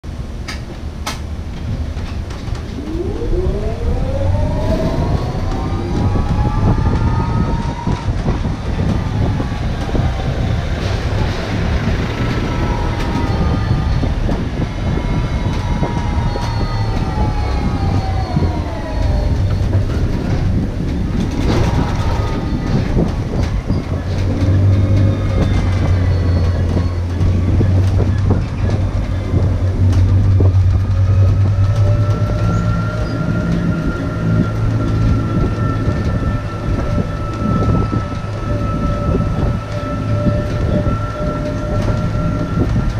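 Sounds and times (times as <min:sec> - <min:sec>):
low road rumble: 0:00.0 - 0:42.9
tram motor whining: 0:00.1 - 0:42.9.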